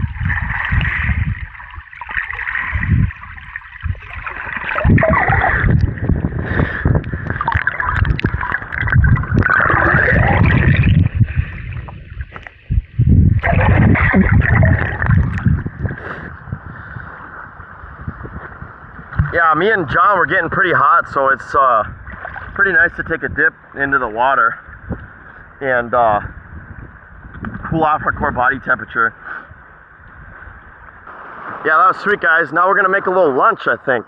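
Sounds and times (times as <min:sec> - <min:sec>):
water splashes: 0:00.0 - 0:24.8, 0:30.6 - 0:34.0
water gurgling and sloshing: 0:00.0 - 0:33.8.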